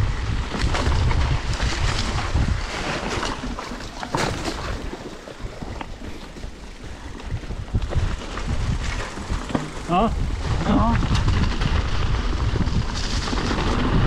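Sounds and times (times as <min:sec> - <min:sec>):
bike rattles and knocks: 0:00.0 - 0:14.0
tyre noise on dirt: 0:00.0 - 0:14.0
wind buffeting microphone: 0:00.0 - 0:14.0.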